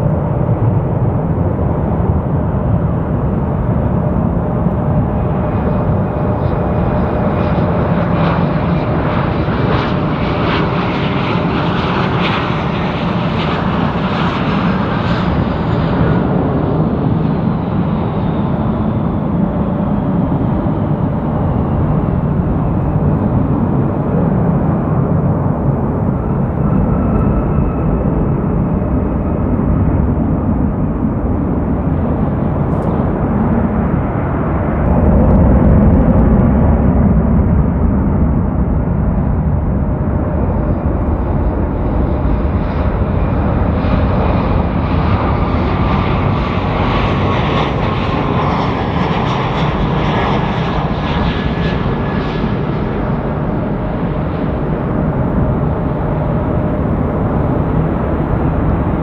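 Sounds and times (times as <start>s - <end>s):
jet airliner engine roar: 0.0s - 59.0s.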